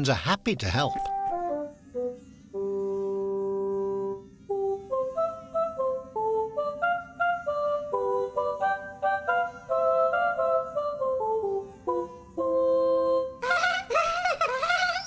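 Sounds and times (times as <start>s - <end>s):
flute-like melody: 0.9s - 15.0s.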